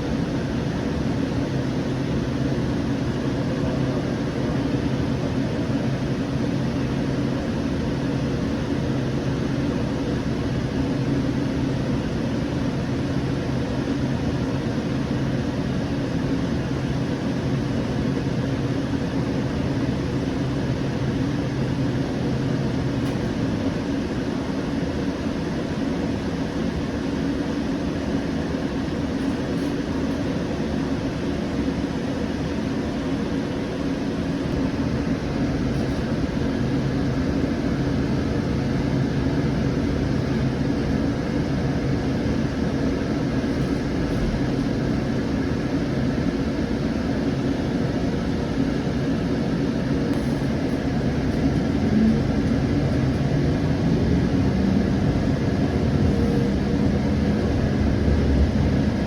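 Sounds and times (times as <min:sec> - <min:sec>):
light rail car hum and rumble: 0:00.0 - 0:59.0.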